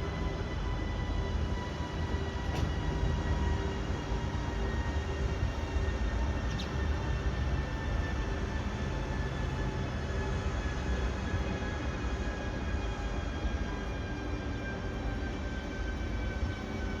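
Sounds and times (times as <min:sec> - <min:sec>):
faint steady whine: 0:00.0 - 0:17.0
train rumbling: 0:00.0 - 0:17.0.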